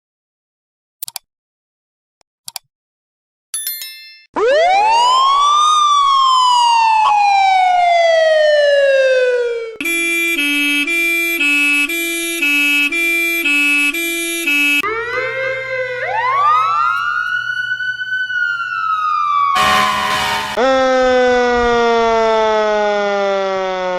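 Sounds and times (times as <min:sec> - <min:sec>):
siren wail rising and falling: 0:04.4 - 0:23.9
two-tone hi-lo siren: 0:04.4 - 0:23.9.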